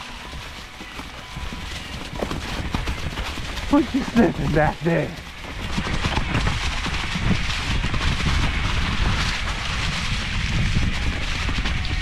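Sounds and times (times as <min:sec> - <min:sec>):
bike rattling and clicking: 0:00.0 - 0:12.0
tyres rolling on dirt: 0:00.0 - 0:12.0
wind rumble on microphone: 0:00.0 - 0:12.0.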